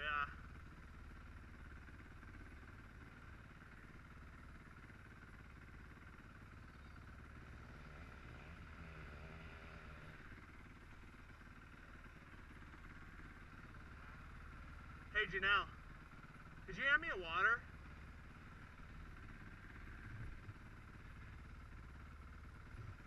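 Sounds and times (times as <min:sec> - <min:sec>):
distant motorcycle engine: 0:00.0 - 0:23.0.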